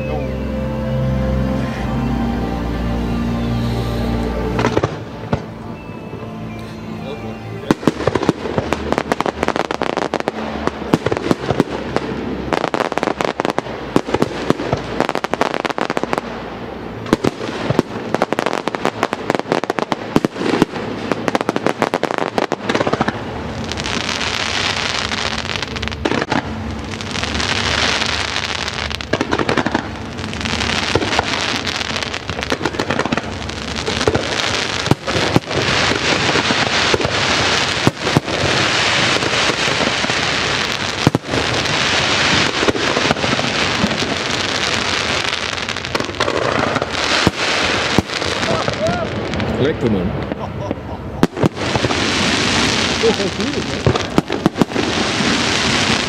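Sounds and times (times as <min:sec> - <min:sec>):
fireworks bursting: 0:00.0 - 0:56.0
fireworks hissing crackle: 0:00.0 - 0:56.0.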